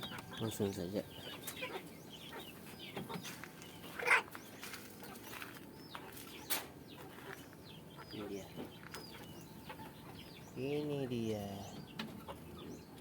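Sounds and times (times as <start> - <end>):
chickens chirping: 0.0 - 13.0.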